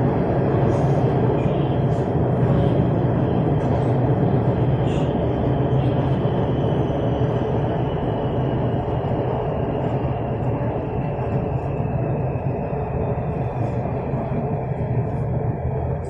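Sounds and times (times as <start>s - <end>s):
metro train running rumble: 0.0s - 16.0s
steady hum: 0.0s - 16.0s.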